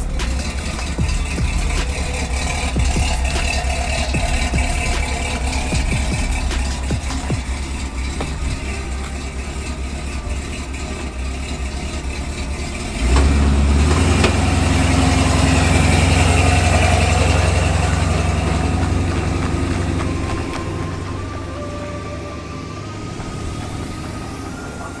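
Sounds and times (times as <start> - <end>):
pickup truck engine running: 0.0 - 25.0.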